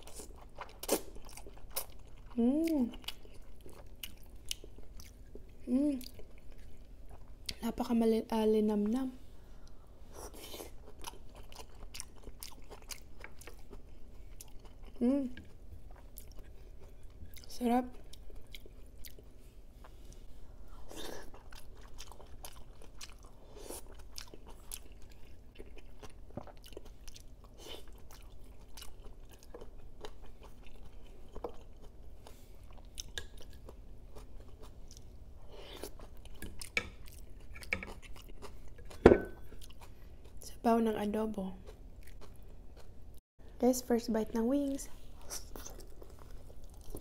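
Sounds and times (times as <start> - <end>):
chewing with mouth noises: 0.0 - 7.6, 9.6 - 40.6, 41.5 - 43.0, 45.1 - 47.0.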